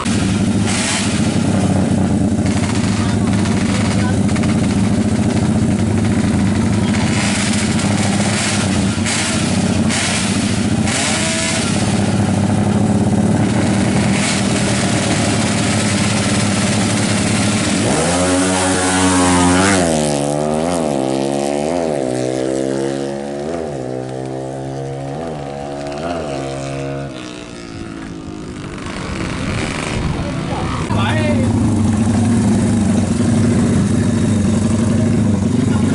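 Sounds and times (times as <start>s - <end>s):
single-cylinder engine revving: 0.0s - 35.9s.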